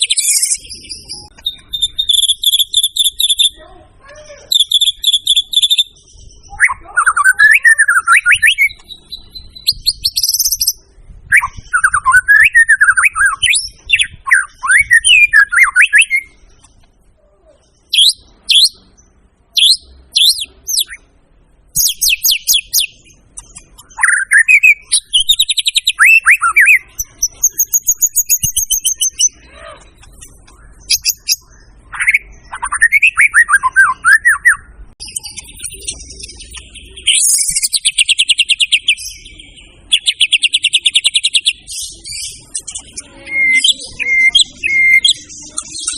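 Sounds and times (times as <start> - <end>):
bird singing whistled warbles: 0.0 - 3.6, 4.5 - 16.4, 17.8 - 21.1, 21.8 - 45.9.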